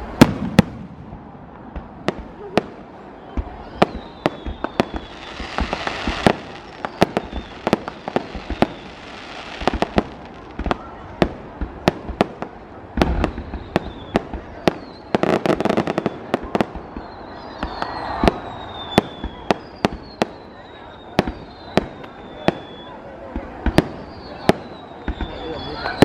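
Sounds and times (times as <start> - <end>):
fireworks bangs and crackling: 0.0 - 26.0
fireworks popping: 0.0 - 26.0
fireworks falling whistles: 1.8 - 26.0.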